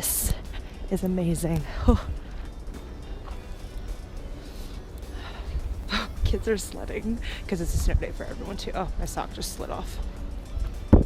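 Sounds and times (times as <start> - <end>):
background music: 0.0 - 11.0
wind rumbling on microphone: 0.0 - 11.0.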